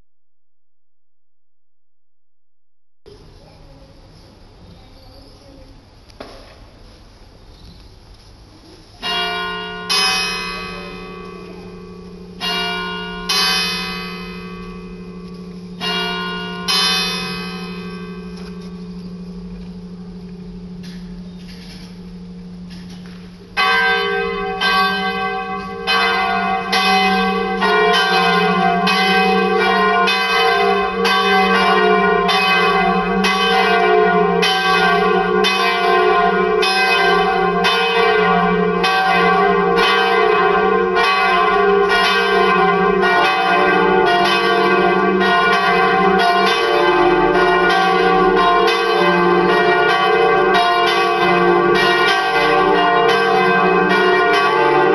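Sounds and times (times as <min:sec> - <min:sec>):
church bells pealing: 0:09.0 - 0:54.9.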